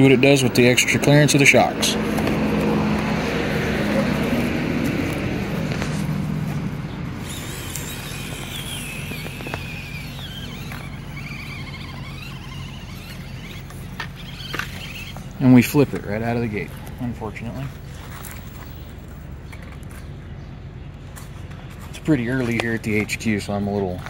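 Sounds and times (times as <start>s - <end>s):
small electric motor whining: 0.0s - 20.1s
low motor hum: 0.0s - 24.0s.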